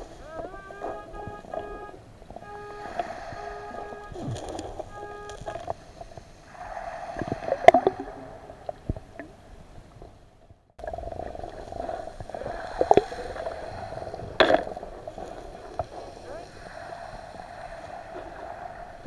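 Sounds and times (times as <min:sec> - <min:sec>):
muffled underwater hiss: 0:00.0 - 0:10.1, 0:10.8 - 0:19.0.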